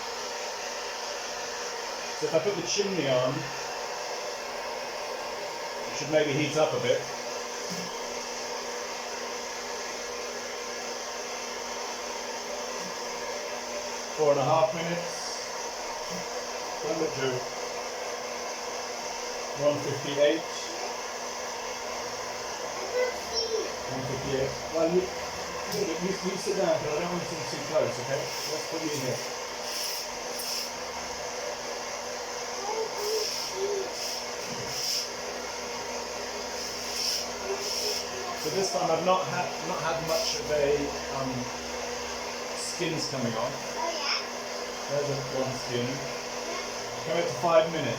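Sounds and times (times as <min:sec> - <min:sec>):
coffee roaster fan blowing: 0:00.0 - 0:47.9.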